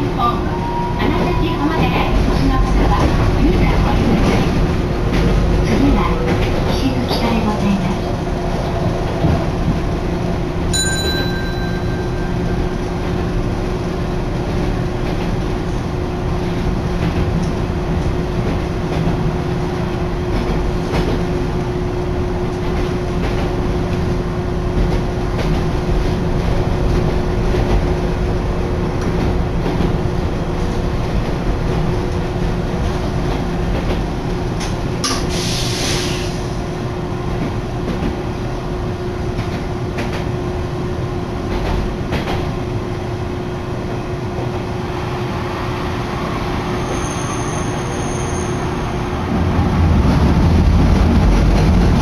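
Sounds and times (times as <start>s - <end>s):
tram wheels rumbling on rail: 0.0s - 52.0s.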